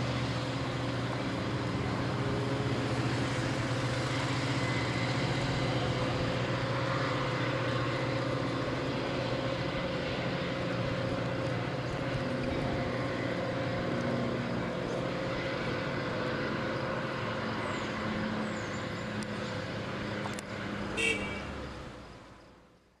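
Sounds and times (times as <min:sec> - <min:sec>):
train wheel and rail noise: 0:00.0 - 0:20.9
diesel train engine drone: 0:00.0 - 0:23.0.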